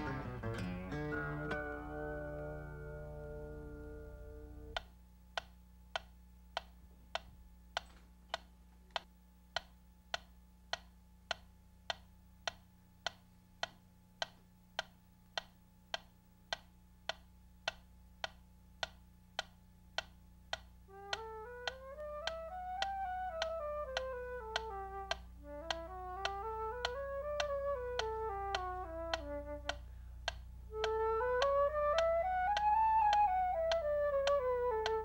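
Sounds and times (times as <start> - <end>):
metronome ticking: 0.0 - 35.0.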